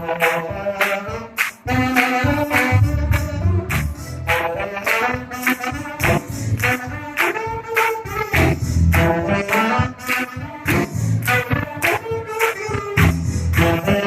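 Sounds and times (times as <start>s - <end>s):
gospel band playing: 0.0s - 14.0s
saxophone melody: 0.0s - 14.0s.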